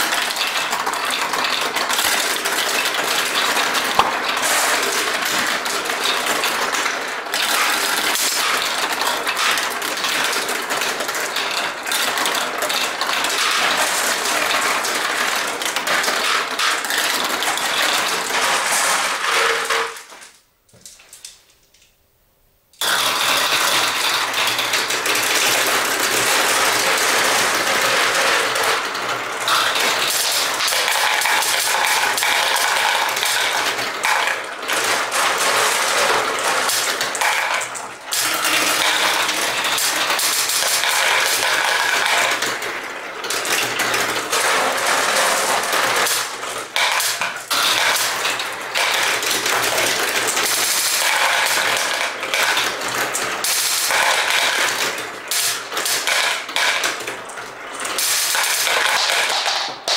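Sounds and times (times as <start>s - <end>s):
marbles rattling down plastic run: 0.0s - 20.3s, 22.8s - 59.9s.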